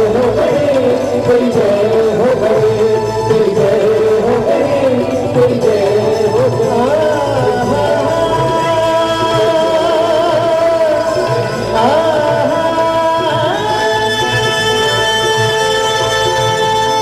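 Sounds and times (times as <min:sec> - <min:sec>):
instrumental accompaniment: 0:00.0 - 0:17.0
man singing into microphone: 0:00.0 - 0:17.0.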